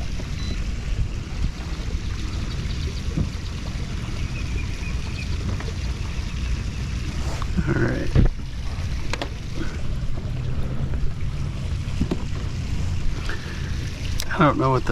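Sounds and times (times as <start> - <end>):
wind rumble: 0.0 - 14.1
water around kayak: 0.0 - 14.9.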